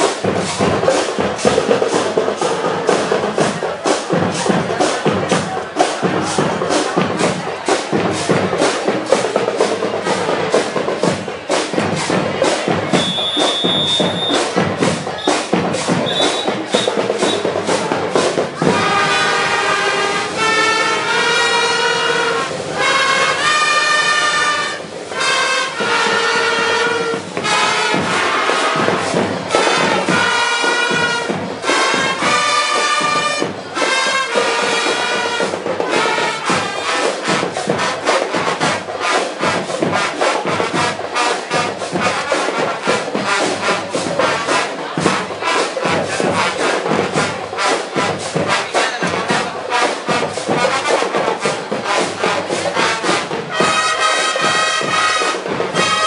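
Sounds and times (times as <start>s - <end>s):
fast drum beat: 0.0s - 21.8s, 22.6s - 56.0s
brass chords: 0.0s - 56.0s.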